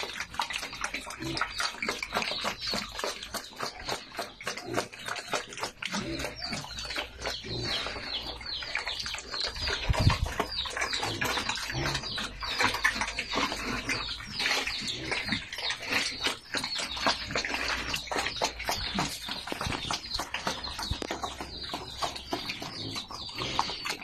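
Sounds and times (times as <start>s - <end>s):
pigs chirping: 0.0s - 24.0s
pigs chomping and slurping: 0.0s - 24.0s.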